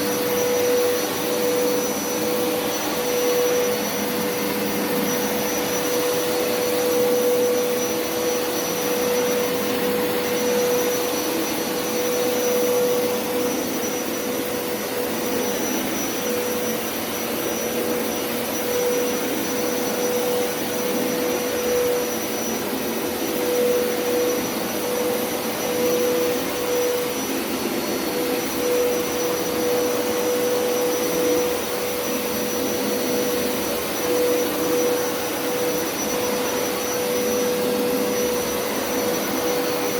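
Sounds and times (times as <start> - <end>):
carpet washer motor whining: 0.0 - 39.9.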